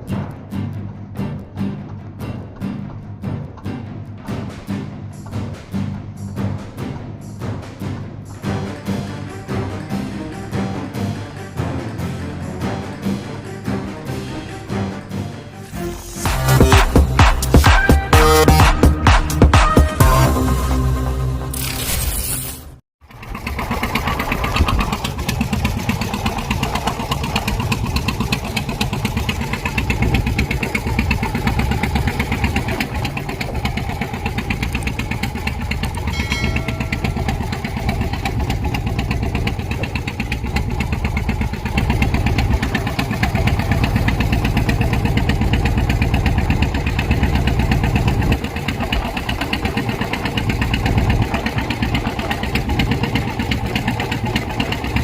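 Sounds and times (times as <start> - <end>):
boat engine pulsing: 0.0 - 21.6, 23.0 - 55.0.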